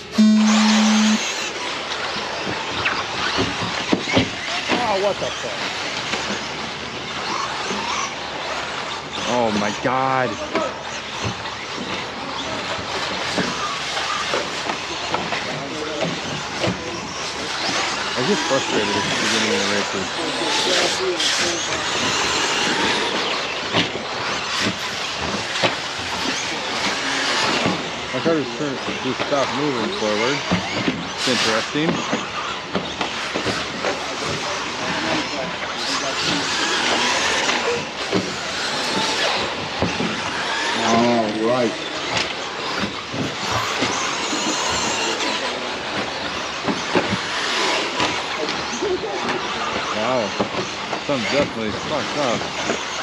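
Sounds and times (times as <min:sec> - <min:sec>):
rc trucks whirring: 0:00.0 - 0:53.0.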